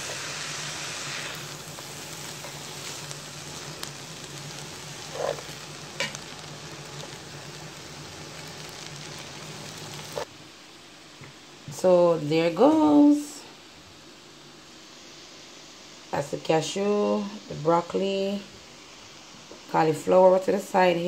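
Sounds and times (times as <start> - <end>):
fried rice sizzling in a pot: 0.0 - 21.0.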